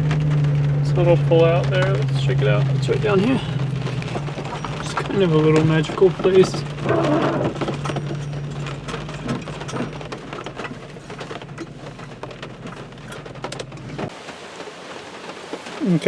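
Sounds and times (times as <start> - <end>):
engine humming: 0.0 - 16.0
rain pattering on a vehicle: 0.0 - 16.0.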